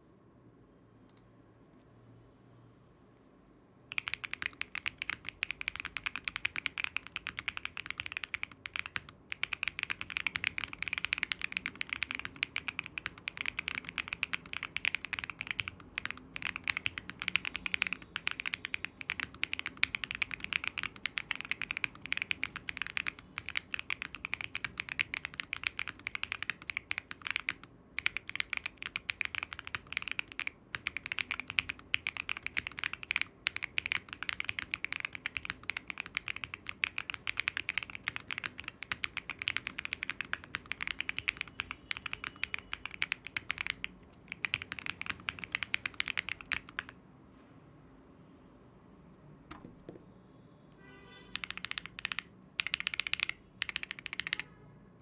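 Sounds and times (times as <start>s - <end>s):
fast typing on mechanical keyboard: 3.9s - 47.0s, 51.3s - 54.5s.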